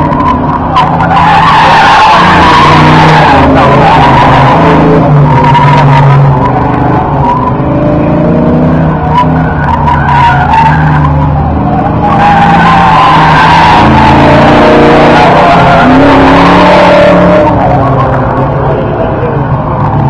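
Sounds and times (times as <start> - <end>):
car engine under load: 0.0 - 20.0
tires squealing: 0.0 - 20.0.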